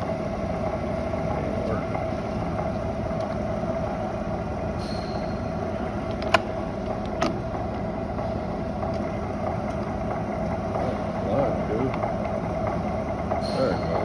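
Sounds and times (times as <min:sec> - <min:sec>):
drill press humming: 0:00.0 - 0:14.0.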